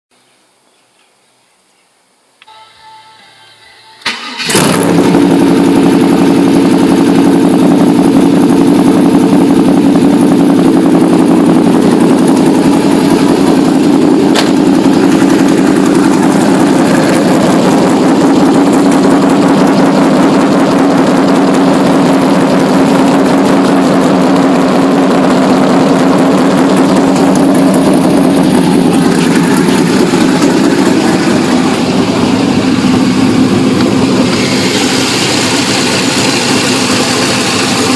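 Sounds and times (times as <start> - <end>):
car engine idling: 2.9 - 37.9.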